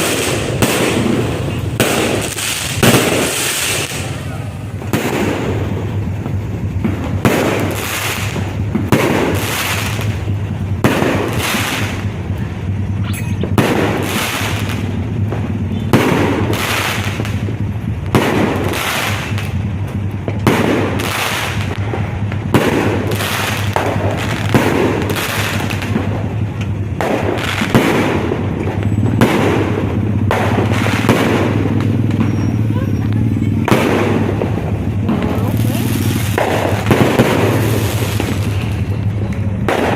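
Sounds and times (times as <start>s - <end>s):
fireworks bangs with rumbling echo: 0.0s - 39.9s.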